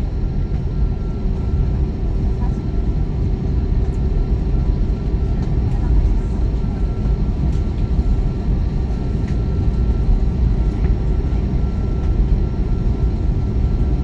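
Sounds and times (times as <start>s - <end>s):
faint engine whine: 0.0s - 14.0s
jet engine cabin rumble: 0.0s - 14.0s.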